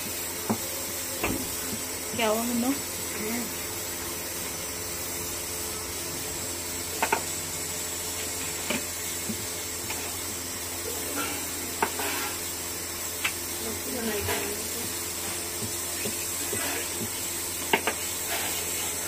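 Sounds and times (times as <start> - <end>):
food sizzling on a stove: 0.0 - 19.0.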